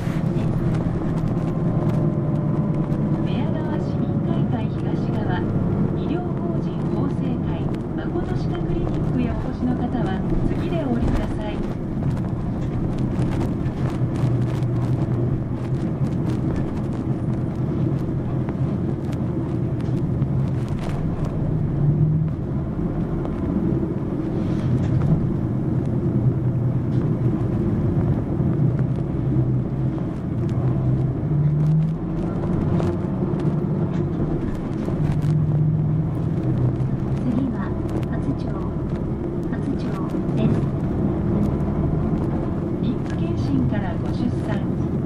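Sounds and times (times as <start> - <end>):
bus diesel engine running: 0.0 - 45.0
road rumble: 0.0 - 45.0.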